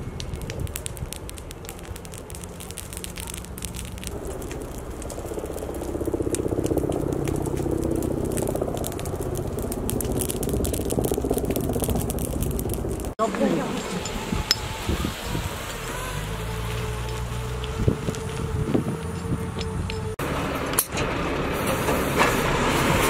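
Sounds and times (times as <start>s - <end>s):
low steady rumble: 0.0s - 22.2s
forest fire crackling: 0.0s - 23.0s.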